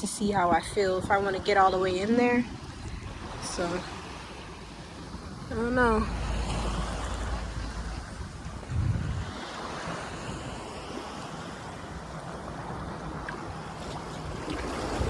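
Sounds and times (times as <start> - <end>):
ocean surf on shore: 0.0 - 15.0
wind buffeting microphone: 0.0 - 15.0.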